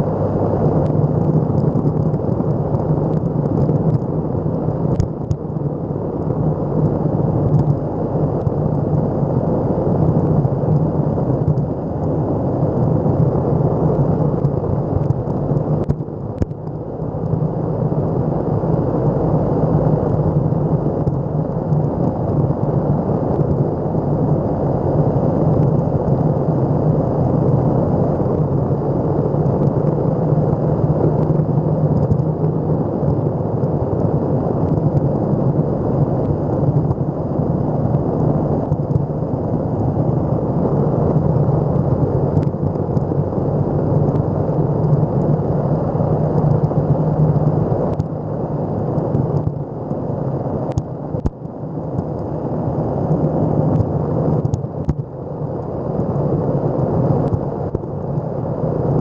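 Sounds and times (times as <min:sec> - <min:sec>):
electric skateboard rolling on pavement: 0:00.0 - 0:59.0
wind noise on microphone: 0:00.0 - 0:59.0.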